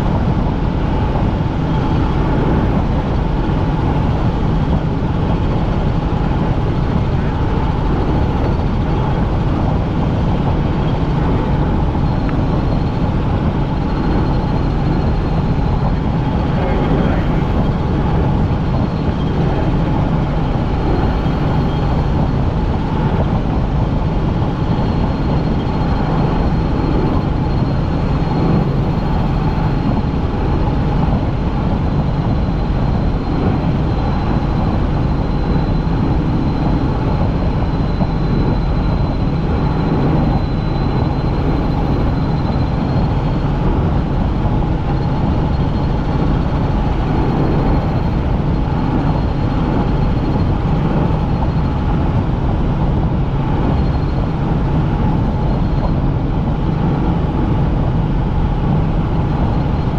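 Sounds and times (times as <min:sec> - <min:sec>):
helicopter rotor and engine drone: 0:00.0 - 0:59.9
high whine: 0:00.0 - 0:59.9.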